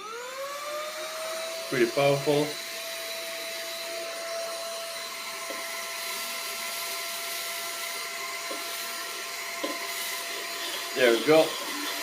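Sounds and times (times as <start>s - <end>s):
handheld vacuum cleaner running: 0.0s - 12.0s.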